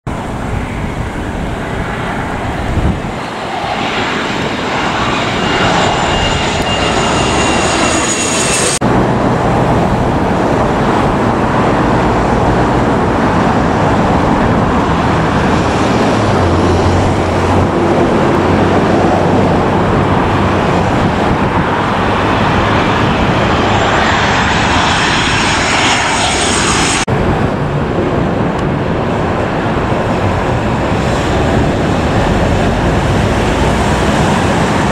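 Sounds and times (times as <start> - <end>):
jet airliner engine roar: 0.1 - 34.9.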